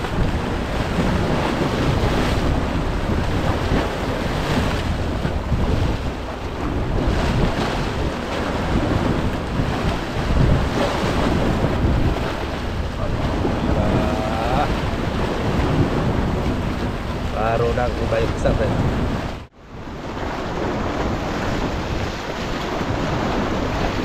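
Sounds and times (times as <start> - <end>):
waves breaking against rocks: 0.0 - 24.0
wind buffeting microphone: 0.0 - 24.0.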